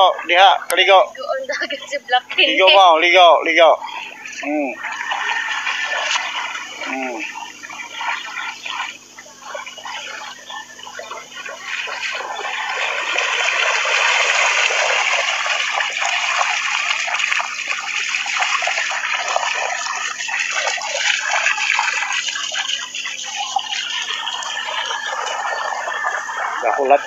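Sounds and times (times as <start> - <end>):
dogs splashing through water: 3.8 - 27.0.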